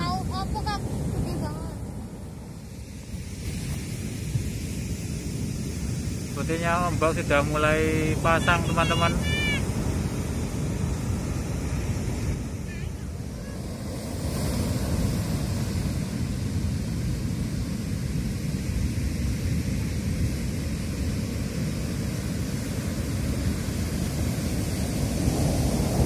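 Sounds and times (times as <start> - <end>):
heavy surf breaking on beach: 0.0 - 26.0
wind rumbling on microphone: 0.0 - 26.0.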